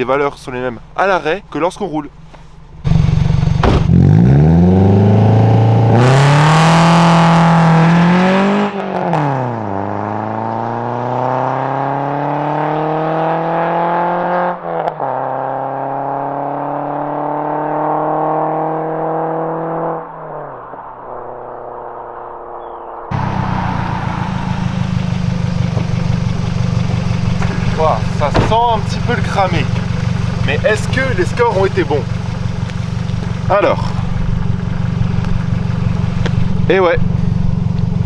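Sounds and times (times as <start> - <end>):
car engine revving: 2.1 - 38.0.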